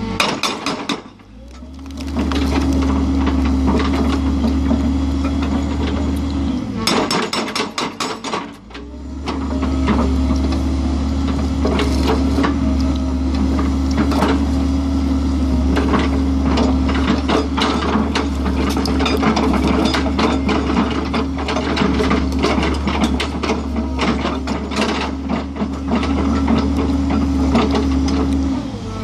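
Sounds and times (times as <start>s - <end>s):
excavator engine and hydraulic drone: 0.0s - 29.0s.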